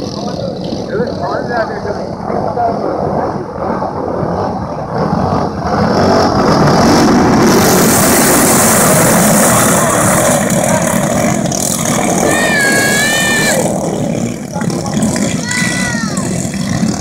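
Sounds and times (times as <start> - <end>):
racing kart engines passing: 0.0 - 17.0.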